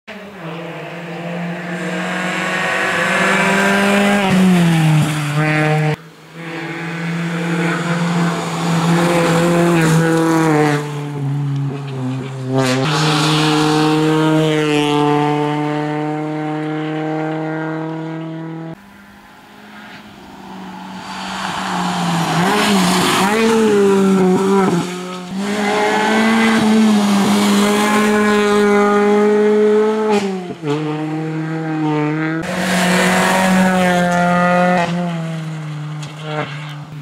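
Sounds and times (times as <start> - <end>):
rally car engine revving hard: 0.3 - 18.8, 21.6 - 37.0.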